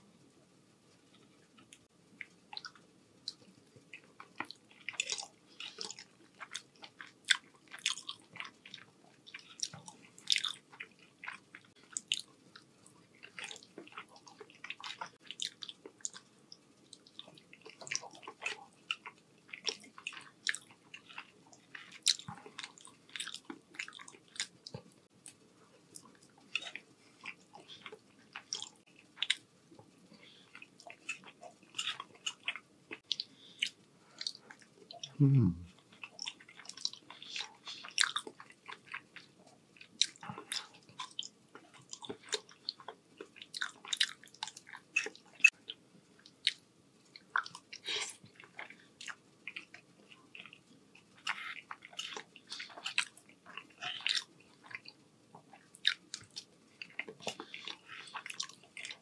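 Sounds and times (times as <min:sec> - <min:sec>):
chewing with mouth clicks: 0:01.6 - 0:59.0.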